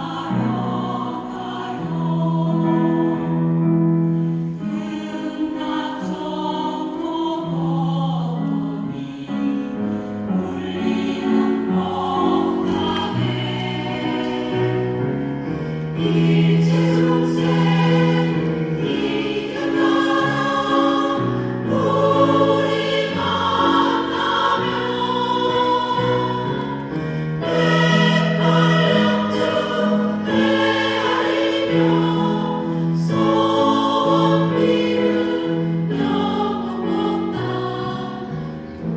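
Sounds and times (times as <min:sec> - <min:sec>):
mixed choir singing a hymn: 0:00.0 - 0:38.9.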